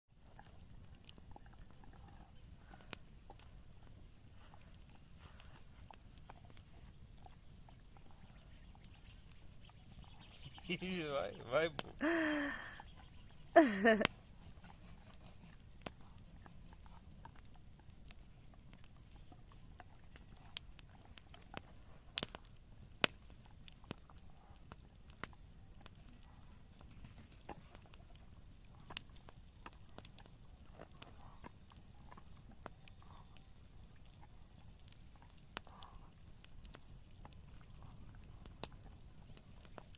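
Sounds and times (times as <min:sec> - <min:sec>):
bonfire crackling and popping: 0:00.1 - 0:39.9.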